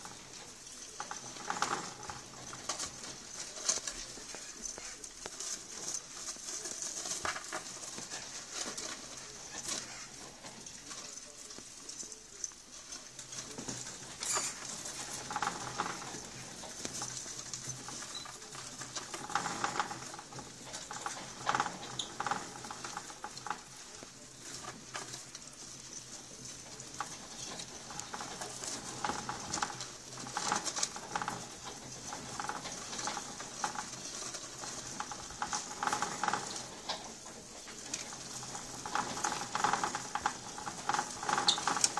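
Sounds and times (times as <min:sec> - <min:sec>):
exercise wheel clicking and rattling: 0:00.0 - 0:41.9.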